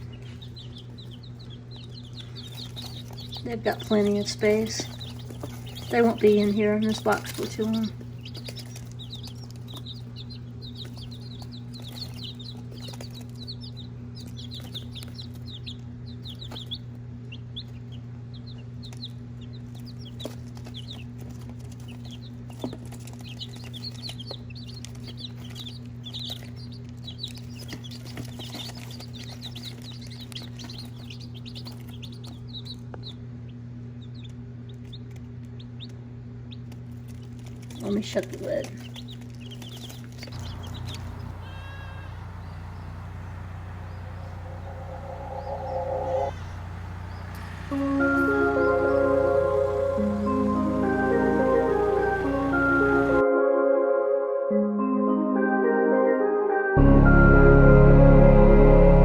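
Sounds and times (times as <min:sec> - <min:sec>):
chicks peeping: 0:00.0 - 0:53.2
steady low hum: 0:00.0 - 0:53.2.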